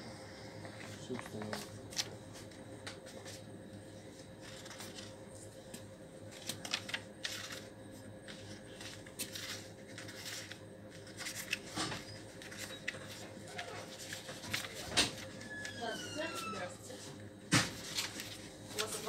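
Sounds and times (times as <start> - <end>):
faint steady hum: 0.0 - 19.0
paper sheets rustling: 0.7 - 17.0, 17.6 - 19.0.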